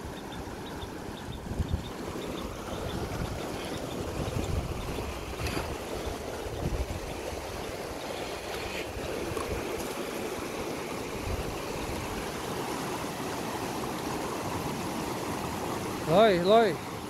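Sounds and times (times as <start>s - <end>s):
river rushing over boulders: 0.4s - 17.0s.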